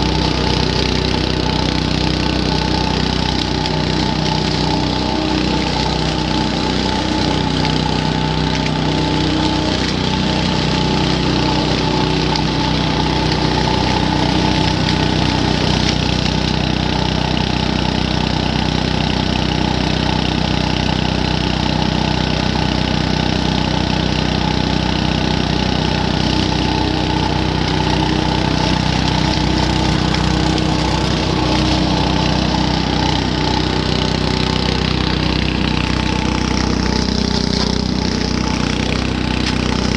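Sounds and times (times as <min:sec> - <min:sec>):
leaf vacuum engine droning: 0:00.0 - 0:39.9.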